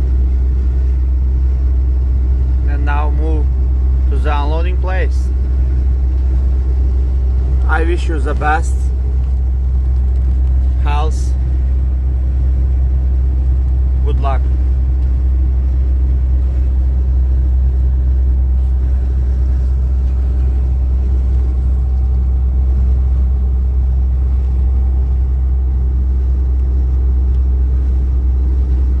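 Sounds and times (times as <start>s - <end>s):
truck engine and road rumble: 0.0s - 29.0s.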